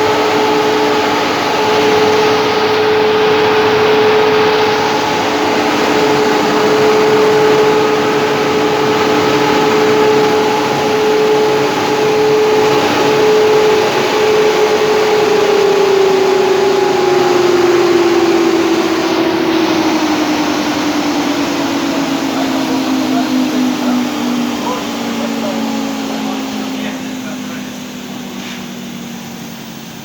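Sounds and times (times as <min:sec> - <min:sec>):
wood moulder machine whining: 0:00.0 - 0:30.0.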